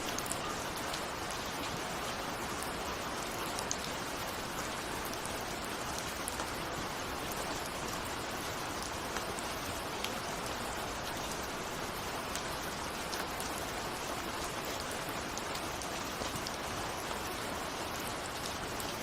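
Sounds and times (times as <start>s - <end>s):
rain ticking on a window: 0.0s - 19.0s.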